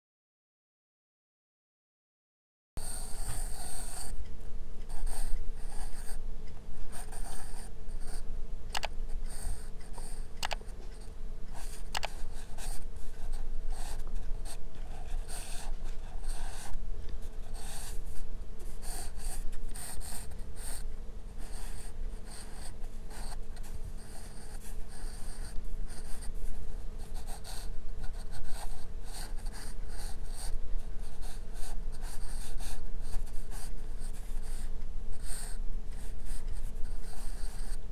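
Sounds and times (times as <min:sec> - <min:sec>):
pencil scratching on paper: 0:02.8 - 0:04.2, 0:04.8 - 0:06.2, 0:06.8 - 0:08.2, 0:10.9 - 0:37.8
steady low hum: 0:02.8 - 0:37.9.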